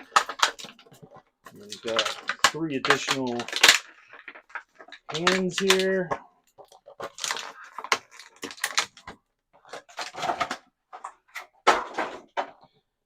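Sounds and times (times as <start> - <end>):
plastic pieces clicking and rustling: 0.0 - 12.8.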